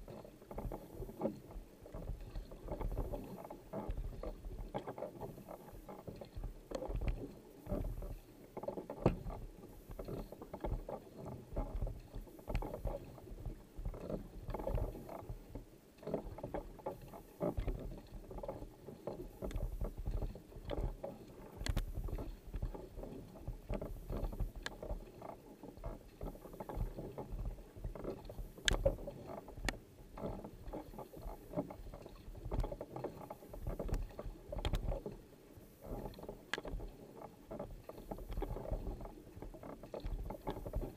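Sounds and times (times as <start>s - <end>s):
kayak paddle pulling through water: 0.0s - 40.9s.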